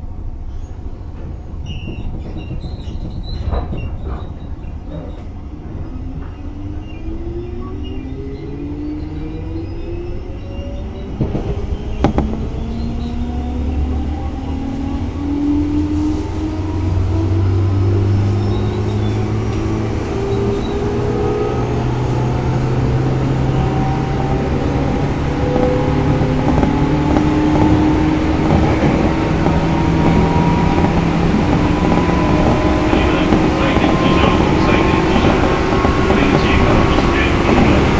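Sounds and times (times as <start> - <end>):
wheels on rails: 1.1 - 37.9
train motor whine: 1.7 - 37.9.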